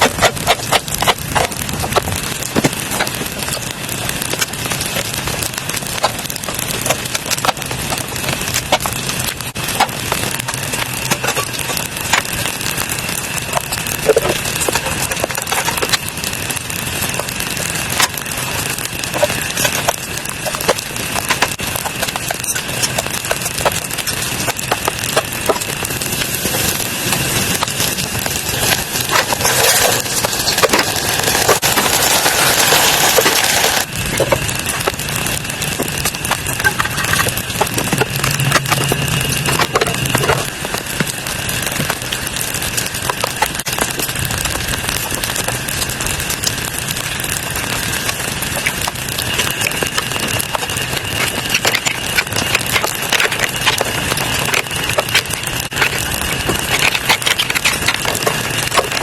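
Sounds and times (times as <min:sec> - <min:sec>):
small crackling clicks: 0:00.0 - 0:59.0
steady rain: 0:00.0 - 0:59.0.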